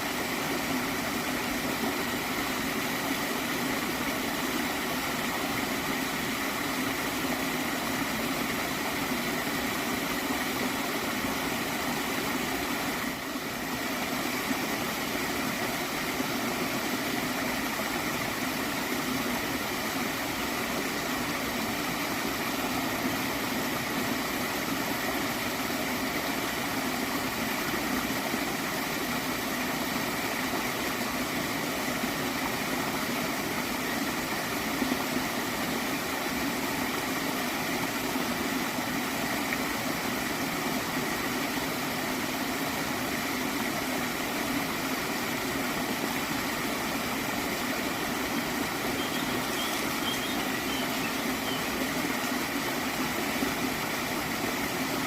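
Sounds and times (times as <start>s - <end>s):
stream gurgling: 0.0s - 55.0s.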